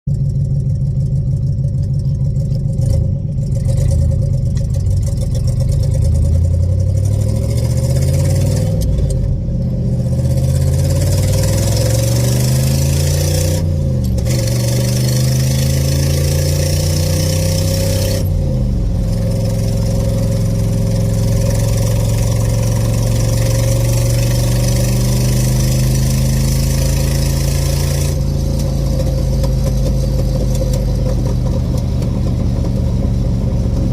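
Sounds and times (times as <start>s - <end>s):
vehicle engine revving: 2.7s - 33.9s.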